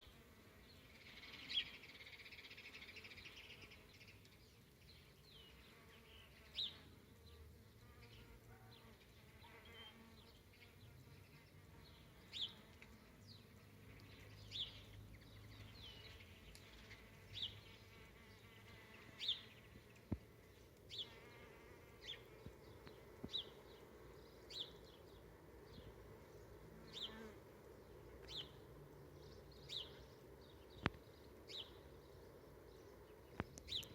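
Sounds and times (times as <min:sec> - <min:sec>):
bees buzzing faintly: 0:00.0 - 0:33.9
bird chirping: 0:00.8 - 0:33.9.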